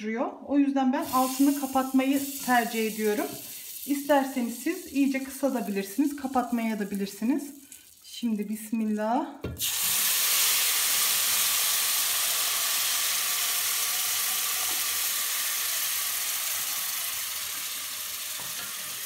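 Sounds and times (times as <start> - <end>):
milk sizzling in a hot pot: 1.0 - 8.7, 9.6 - 19.0.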